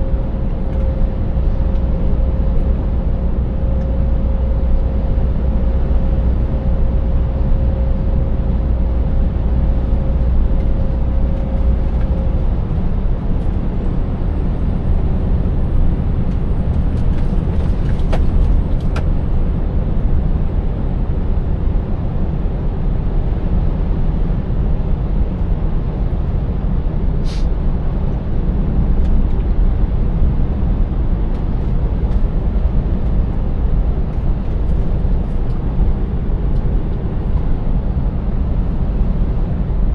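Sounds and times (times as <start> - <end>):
diesel truck engine droning: 0.0 - 39.9
road noise: 0.0 - 39.9.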